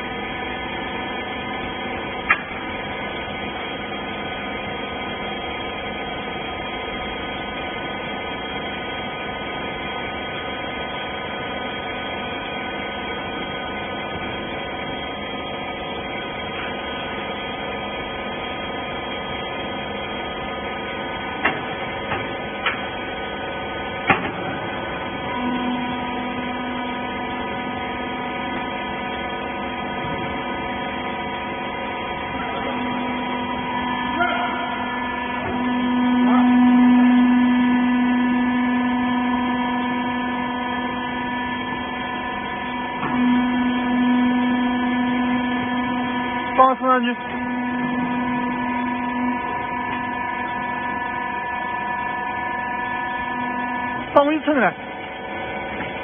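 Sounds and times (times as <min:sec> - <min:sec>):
hydraulic motor and pump hum: 0:00.0 - 0:56.0.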